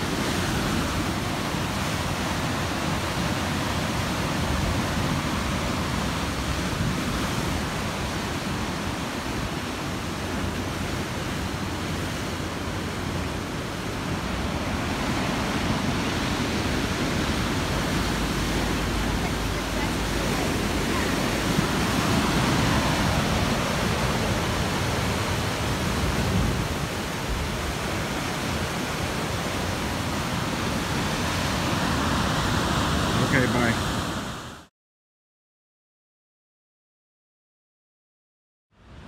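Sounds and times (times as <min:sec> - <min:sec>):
ocean surf over rocks: 0:00.0 - 0:34.7.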